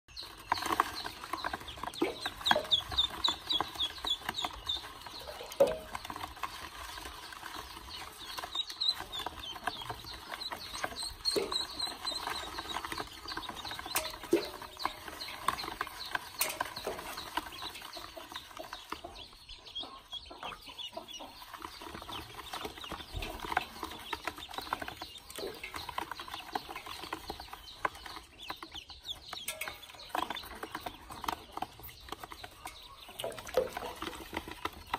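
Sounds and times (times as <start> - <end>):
ducklings peeping: 0.1 - 34.9.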